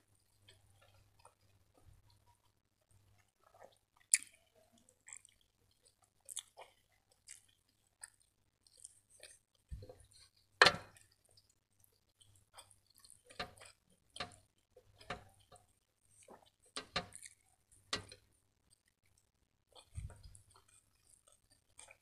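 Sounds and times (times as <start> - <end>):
chewing and wet mouth sounds: 0.1 - 22.0.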